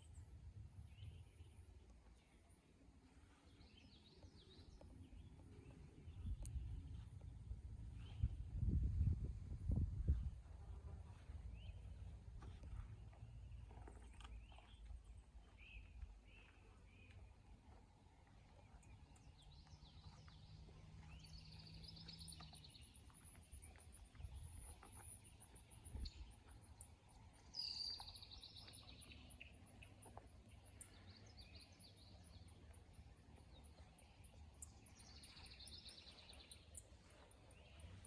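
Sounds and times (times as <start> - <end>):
songbird singing a trill: 3.5 - 9.8, 11.5 - 38.0.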